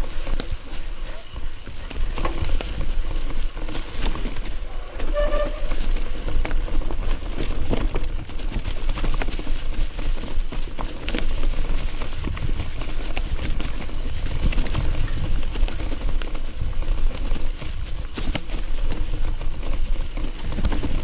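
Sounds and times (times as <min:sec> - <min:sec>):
bike knocking and rattling: 0:00.0 - 0:21.0
wind rumble on microphone: 0:00.0 - 0:21.0.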